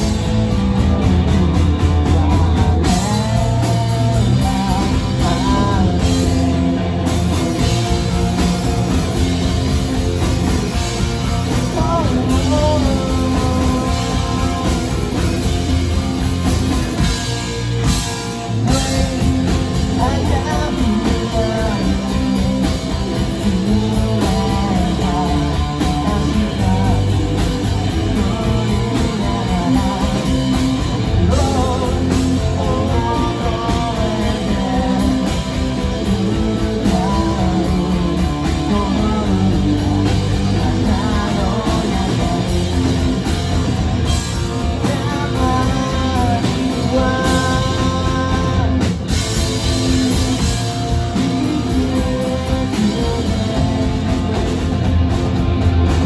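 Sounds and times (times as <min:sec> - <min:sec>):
person singing: 0:00.0 - 0:16.2, 0:17.9 - 0:54.9
distorted electric guitars: 0:00.0 - 0:56.0
drum kit: 0:00.0 - 0:56.0.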